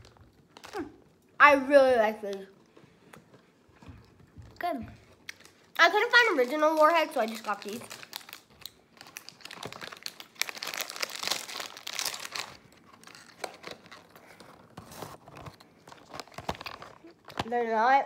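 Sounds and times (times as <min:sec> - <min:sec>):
plastic packaging crinkling: 0:00.0 - 0:01.2, 0:04.0 - 0:17.7.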